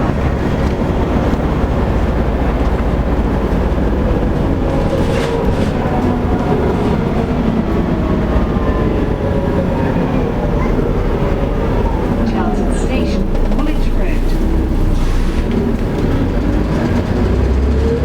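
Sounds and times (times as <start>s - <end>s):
bus engine low rumble: 0.0s - 18.0s.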